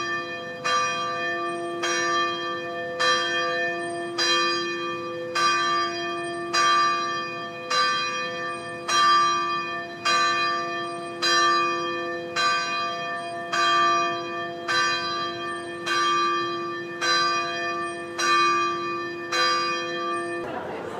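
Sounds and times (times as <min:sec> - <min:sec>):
bells ringing in a peal: 0:00.0 - 0:20.9.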